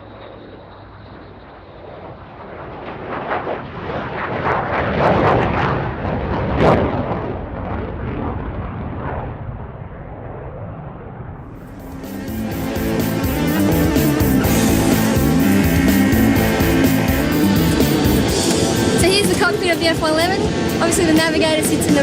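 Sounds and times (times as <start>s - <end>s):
jet aircraft passing: 0.0s - 22.0s.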